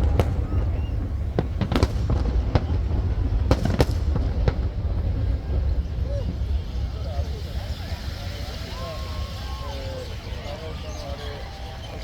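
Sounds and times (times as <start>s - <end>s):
deep rumble: 0.0s - 10.8s
fireworks bangs: 0.0s - 12.0s.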